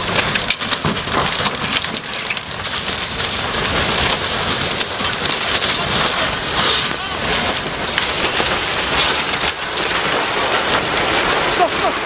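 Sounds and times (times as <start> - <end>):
sharp cracks and snaps: 0.0 - 11.9
rushing crash of snow and debris: 0.0 - 12.0.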